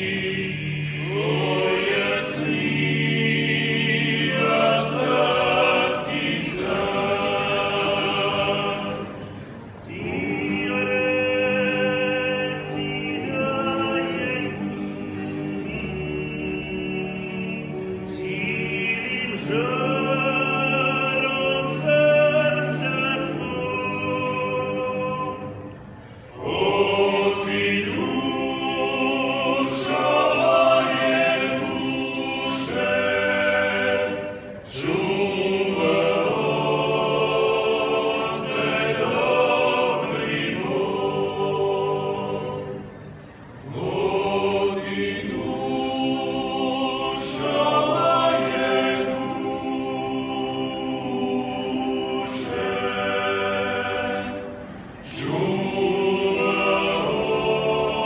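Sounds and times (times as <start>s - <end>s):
men singing a cappella harmony: 0.0s - 9.2s, 9.9s - 25.5s, 26.4s - 42.8s, 43.7s - 58.0s.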